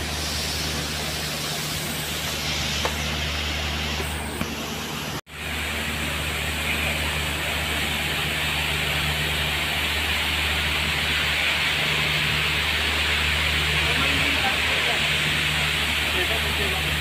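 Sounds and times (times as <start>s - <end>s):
low machinery hum: 0.0s - 17.0s
water spray hissing: 0.0s - 17.0s.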